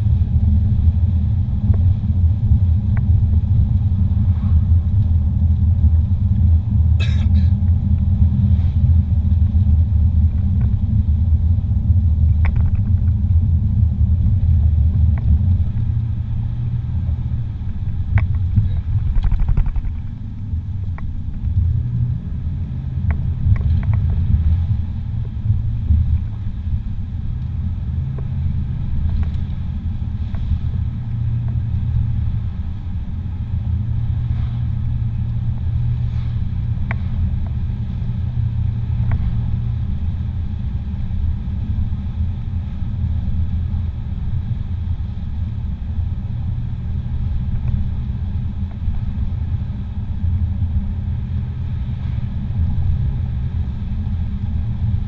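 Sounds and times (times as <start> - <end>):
car driving on paved road: 0.0 - 55.0.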